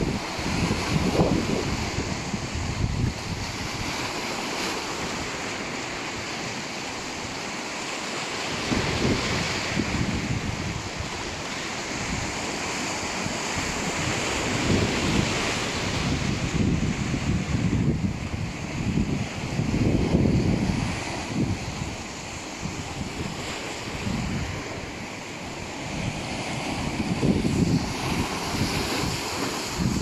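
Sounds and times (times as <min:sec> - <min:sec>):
wind buffeting microphone: 0:00.0 - 0:07.5, 0:08.4 - 0:30.0
sea waves washing on shore: 0:00.0 - 0:30.0.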